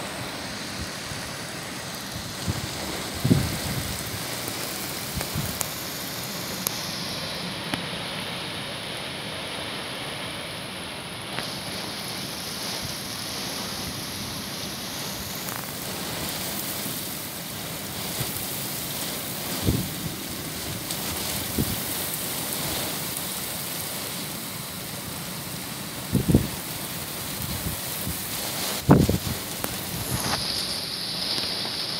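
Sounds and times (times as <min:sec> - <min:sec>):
heavy rain hissing: 0:00.0 - 0:31.9
wind: 0:00.0 - 0:31.9.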